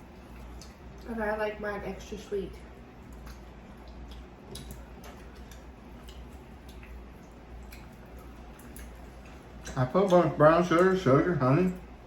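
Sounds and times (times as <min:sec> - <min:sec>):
person chewing food: 0:00.0 - 0:01.1, 0:02.7 - 0:12.0
faint low hum: 0:00.0 - 0:12.0.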